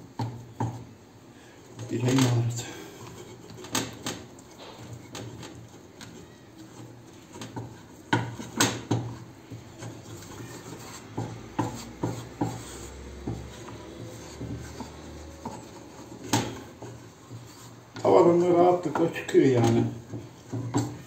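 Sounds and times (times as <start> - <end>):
wooden spoon scraping a pan: 0.0 - 21.0.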